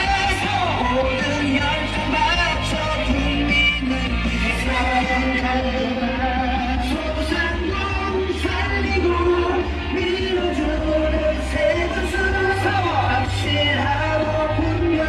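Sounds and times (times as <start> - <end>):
pop music with singing: 0.0 - 15.0.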